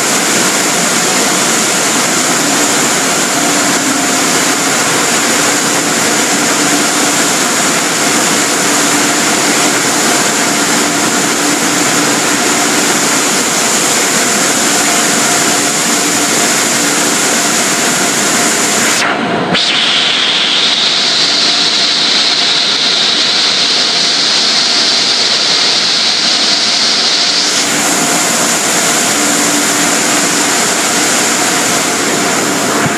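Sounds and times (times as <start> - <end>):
air blowers and water spray: 0.0 - 32.9
faint high whine: 0.0 - 32.9
low machine hum: 0.0 - 32.9.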